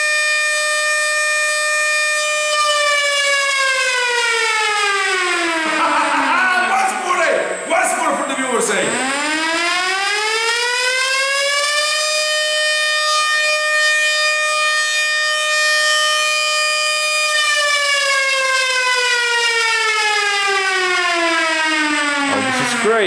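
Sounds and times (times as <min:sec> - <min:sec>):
air-raid siren wailing: 0:00.0 - 0:23.0.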